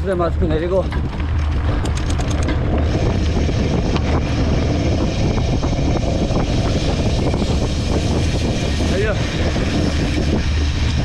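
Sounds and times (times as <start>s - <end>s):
bike tyre and drivetrain noise: 0.0s - 11.0s
wind buffeting microphone: 0.0s - 11.0s.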